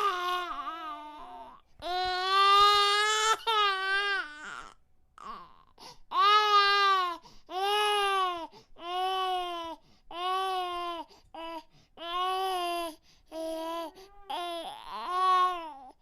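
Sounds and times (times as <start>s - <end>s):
baby crying: 0.0s - 16.0s.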